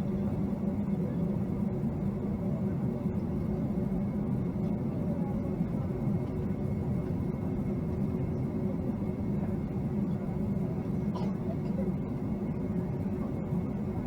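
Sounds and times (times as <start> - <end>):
aircraft engines idling rumble: 0.0 - 14.0.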